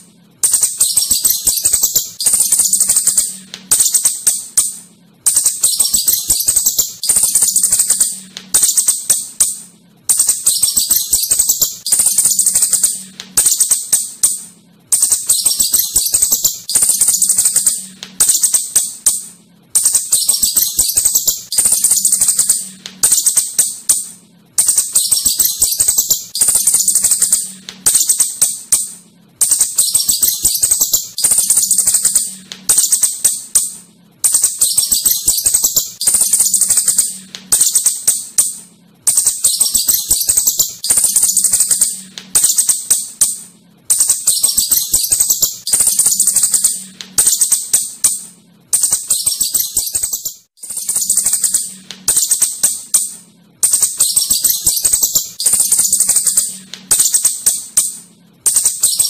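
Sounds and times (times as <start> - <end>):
shrew chittering calls: 0.4 - 4.4, 5.3 - 9.2, 10.1 - 14.4, 15.0 - 18.8, 19.8 - 24.0, 24.6 - 28.8, 29.4 - 33.7, 34.3 - 38.5, 39.1 - 43.0, 43.9 - 47.9, 48.8 - 52.8, 53.6 - 57.9.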